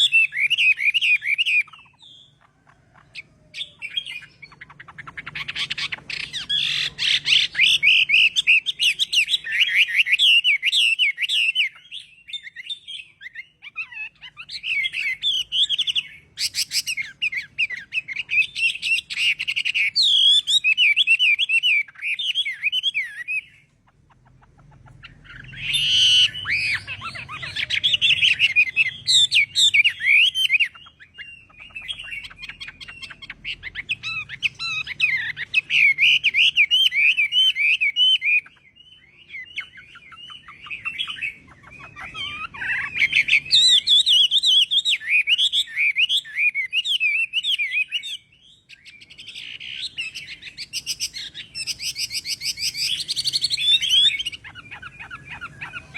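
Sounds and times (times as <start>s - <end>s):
bird singing whistled notes: 0.0s - 55.9s.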